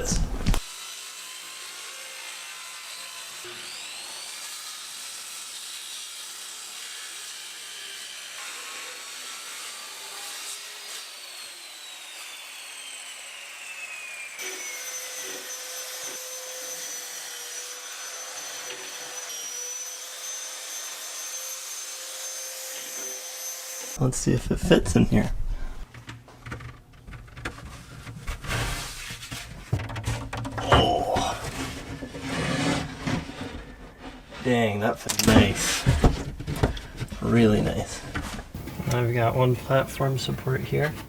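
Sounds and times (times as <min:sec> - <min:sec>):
power saw cutting plywood: 0:00.4 - 0:24.1, 0:27.6 - 0:37.1, 0:38.1 - 0:41.0.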